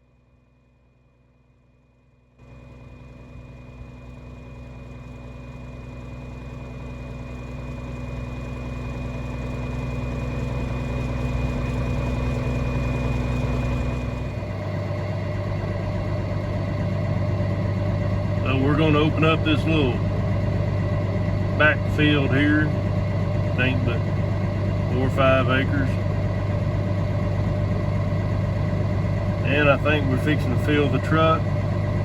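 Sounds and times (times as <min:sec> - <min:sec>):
tractor engine running: 0:02.4 - 0:32.0.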